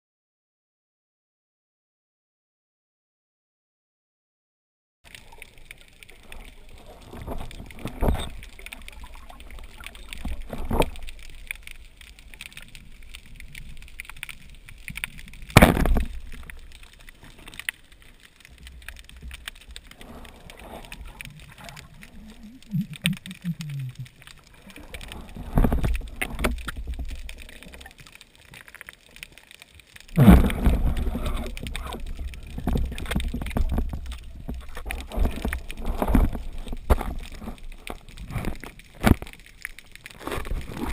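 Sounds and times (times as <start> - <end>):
water gurgling underwater: 5.1 - 18.0, 18.6 - 29.0, 29.9 - 40.9.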